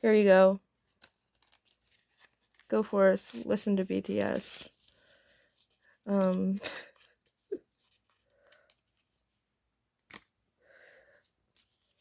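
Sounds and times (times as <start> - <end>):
soft rustle of packaging: 0.3 - 12.0.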